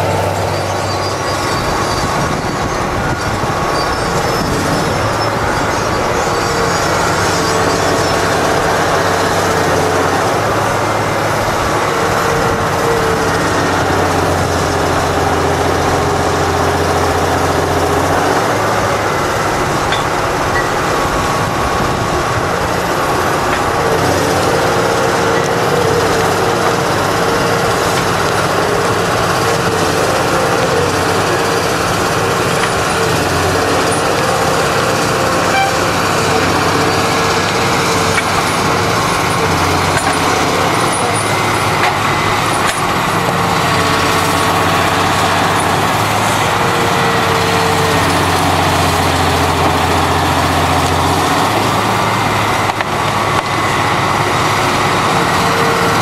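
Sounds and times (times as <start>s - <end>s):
engine running under load: 0.0s - 56.0s.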